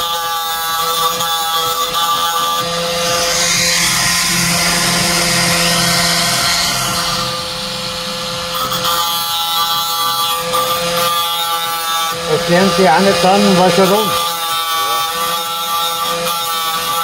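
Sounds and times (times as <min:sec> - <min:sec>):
angle grinder grinding steel: 0:00.6 - 0:16.9.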